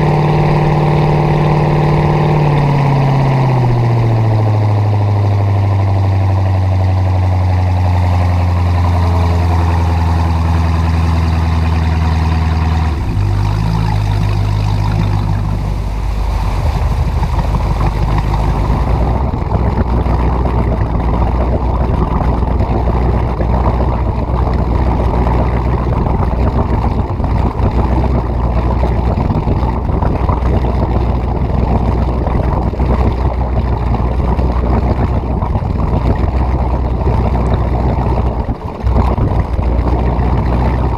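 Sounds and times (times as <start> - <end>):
boat engine running: 0.0 - 40.9
water around hull: 0.0 - 40.9.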